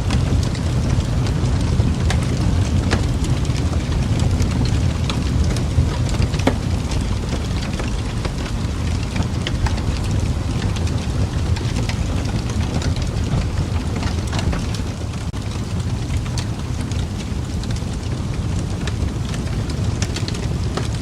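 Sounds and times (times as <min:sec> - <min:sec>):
fire crackling and popping: 0:00.0 - 0:21.0
fire roaring: 0:00.0 - 0:21.0.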